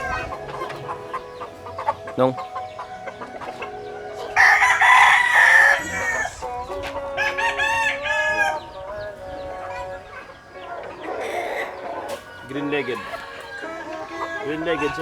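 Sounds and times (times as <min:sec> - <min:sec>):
roosters crowing: 0:00.0 - 0:15.0.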